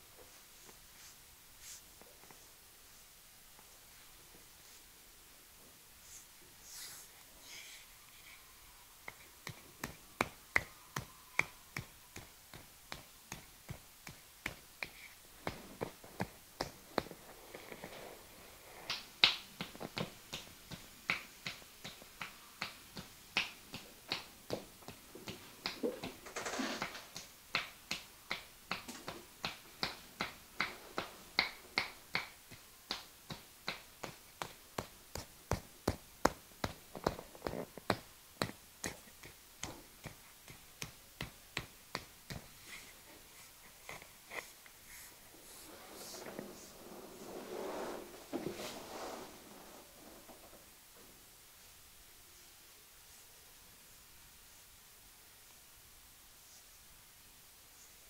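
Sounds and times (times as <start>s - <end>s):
rustling hiss: 0.0s - 58.0s.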